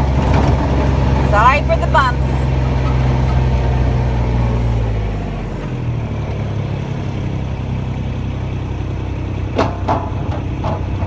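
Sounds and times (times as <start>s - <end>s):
pump engine humming: 0.0s - 11.0s
vehicle engine: 0.0s - 11.0s.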